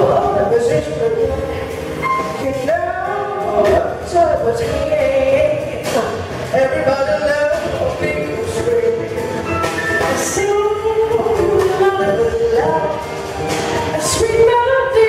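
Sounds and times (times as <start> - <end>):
jazz combo playing: 0.0 - 15.0
woman singing jazz: 0.0 - 15.0.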